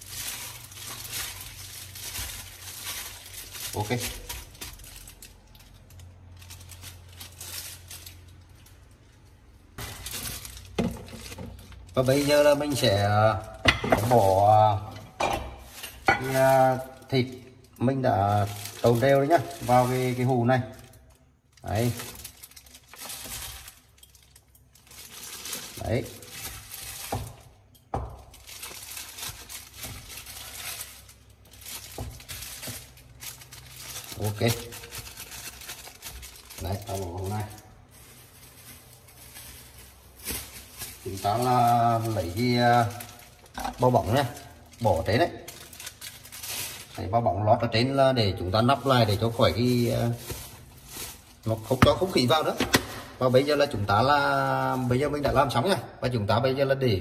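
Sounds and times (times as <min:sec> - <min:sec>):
wet rustling and squishing: 0:00.0 - 0:55.6.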